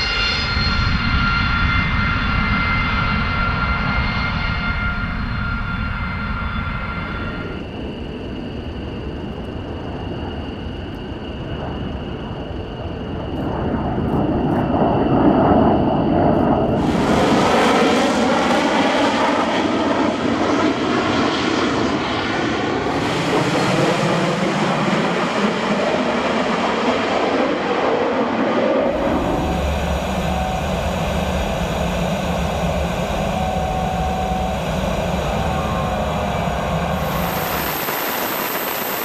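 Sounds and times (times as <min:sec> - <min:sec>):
jet engine roaring: 0:00.0 - 0:39.0.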